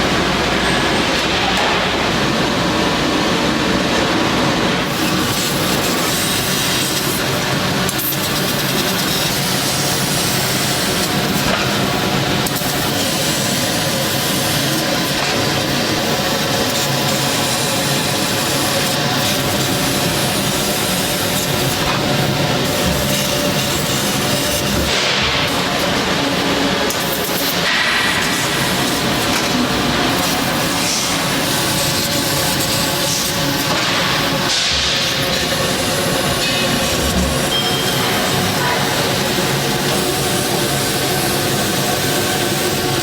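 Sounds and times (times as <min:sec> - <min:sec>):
metalworking machine hiss: 0:04.8 - 0:43.0.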